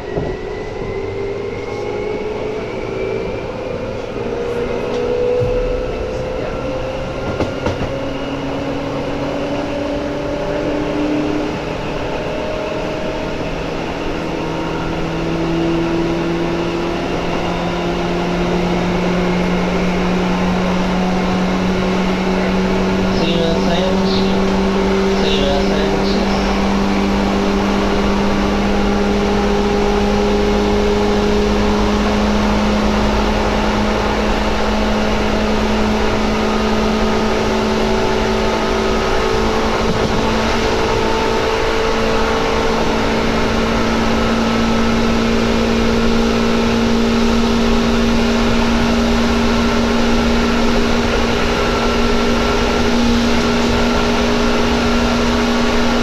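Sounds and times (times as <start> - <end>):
train motor whine: 0.0 - 56.0
wheels rumbling on rails: 0.0 - 56.0.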